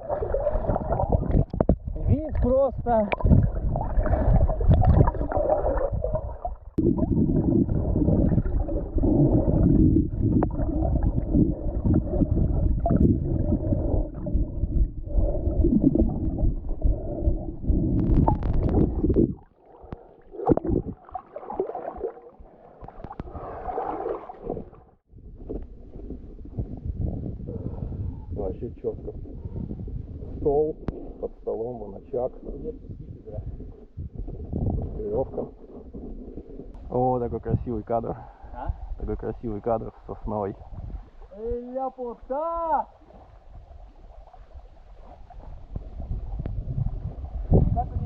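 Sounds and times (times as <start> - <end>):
muffled water gurgling and sloshing: 0.0 - 48.0.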